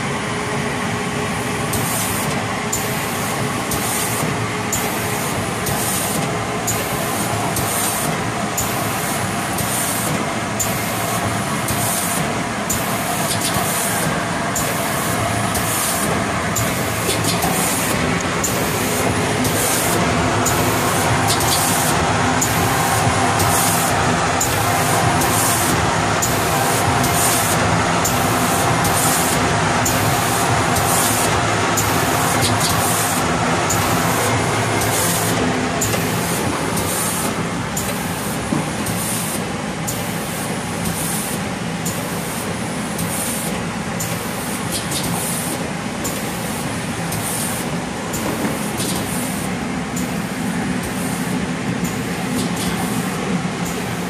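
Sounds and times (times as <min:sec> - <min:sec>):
machine hum and blower: 0:00.0 - 0:54.0.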